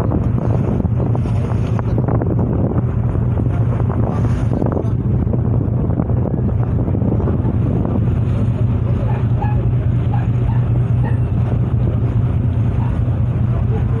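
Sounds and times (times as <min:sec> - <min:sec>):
ship engine humming: 0:00.0 - 0:14.0
wind on microphone: 0:00.0 - 0:14.0.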